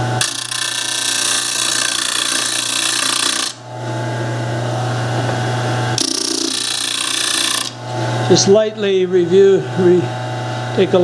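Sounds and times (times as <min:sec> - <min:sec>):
disc sander grinding: 0:00.0 - 0:11.0.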